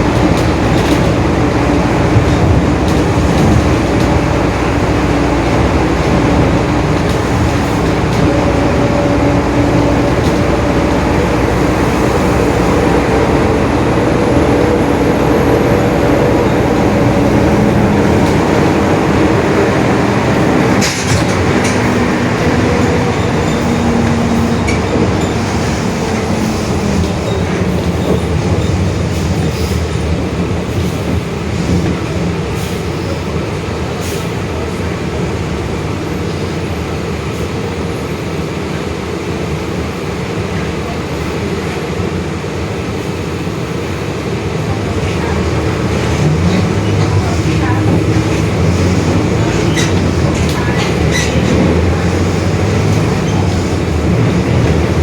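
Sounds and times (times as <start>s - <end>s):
bus diesel engine rumbling: 0.0s - 55.0s.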